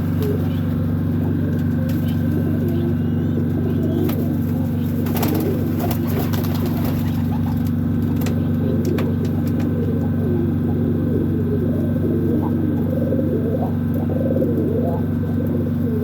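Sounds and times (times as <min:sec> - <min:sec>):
doves cooing: 0:00.0 - 0:16.0
loud low hum: 0:00.0 - 0:16.0.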